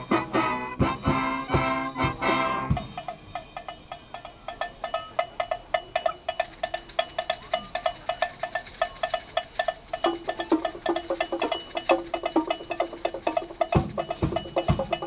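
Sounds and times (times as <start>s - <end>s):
woodblock-like knocking beat: 0.8s - 15.0s.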